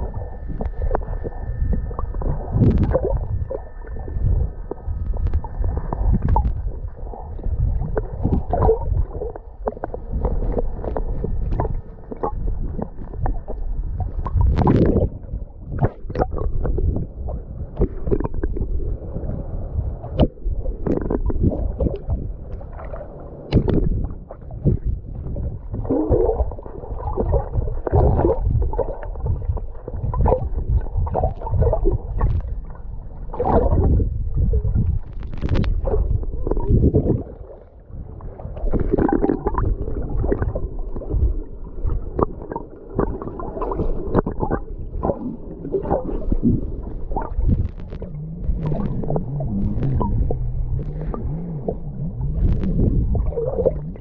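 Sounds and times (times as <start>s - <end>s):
water gurgling and splashing: 0.0s - 54.0s.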